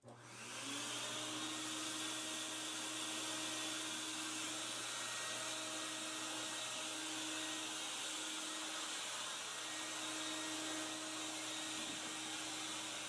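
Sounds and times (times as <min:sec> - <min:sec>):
shop vacuum blowing air: 0:00.0 - 0:13.0.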